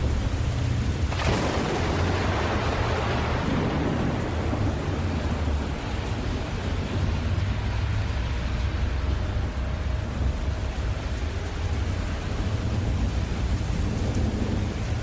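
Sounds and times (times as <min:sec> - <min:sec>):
heavy rain: 0:00.0 - 0:15.0
thunder crack and rumble: 0:00.0 - 0:15.0.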